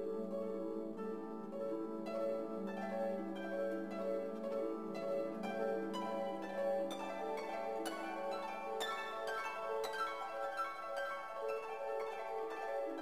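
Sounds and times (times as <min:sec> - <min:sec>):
plucked-string melody: 0:00.0 - 0:13.0.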